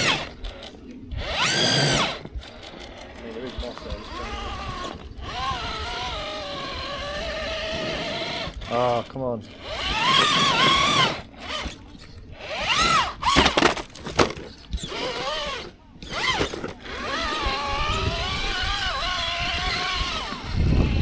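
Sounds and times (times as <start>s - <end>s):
toy car electric motor whining: 0.0s - 21.0s.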